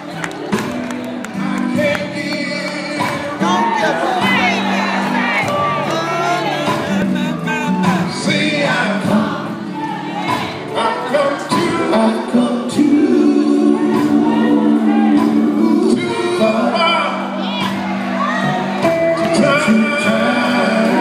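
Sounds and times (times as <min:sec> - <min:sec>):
band with guitars keyboard drums: 0:00.0 - 0:21.0
gospel quartet singing: 0:00.5 - 0:21.0.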